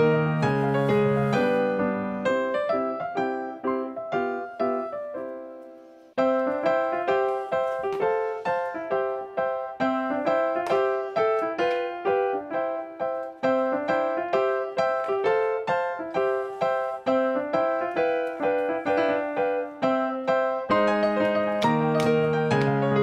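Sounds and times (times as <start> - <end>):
light piano tune: 0.0 - 23.0.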